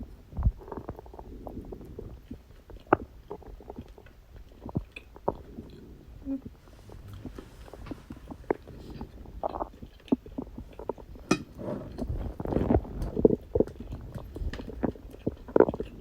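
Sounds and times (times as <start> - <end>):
stomach gurgling: 0.0 - 16.0.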